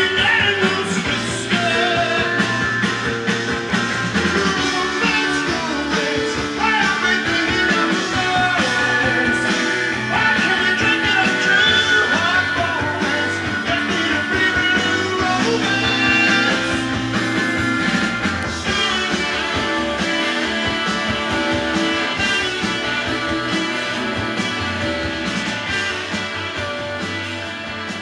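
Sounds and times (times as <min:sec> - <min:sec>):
song with singing and band: 0:00.0 - 0:28.0.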